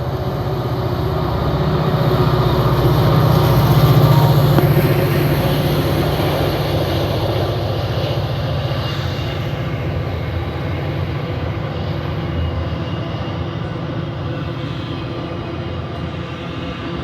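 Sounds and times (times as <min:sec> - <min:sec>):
diesel locomotive engine drone: 0:00.0 - 0:17.0
rumble of rolling train: 0:00.0 - 0:17.0.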